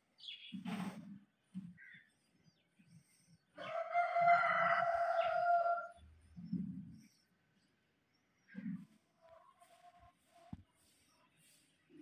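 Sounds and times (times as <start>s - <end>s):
long steady bird call: 1.7s - 12.0s.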